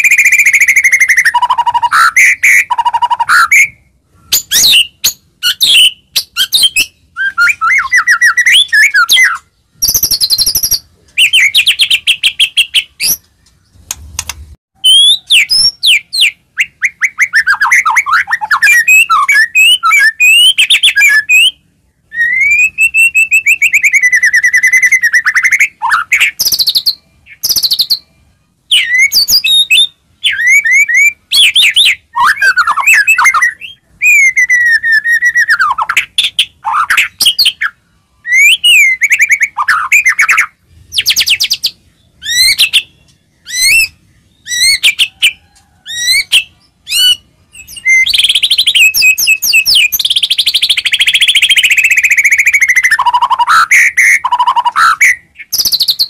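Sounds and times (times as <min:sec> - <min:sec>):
songbird singing whistled phrases: 0:00.0 - 0:56.0.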